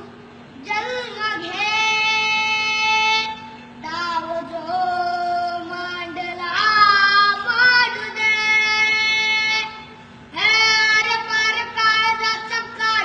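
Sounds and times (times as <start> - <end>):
boy singing: 0.0 - 13.0.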